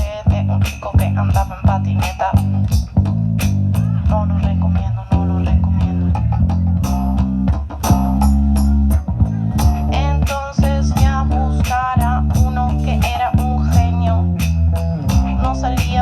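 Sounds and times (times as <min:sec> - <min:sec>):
bass guitar: 0:00.0 - 0:16.0
drums beating: 0:00.0 - 0:16.0.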